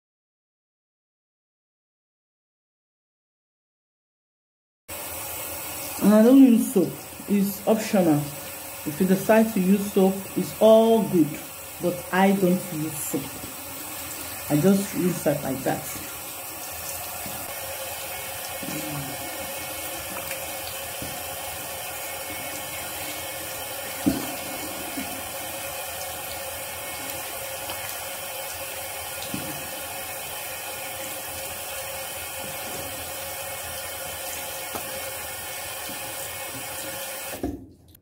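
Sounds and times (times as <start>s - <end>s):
tap water running into sink: 4.9s - 38.0s.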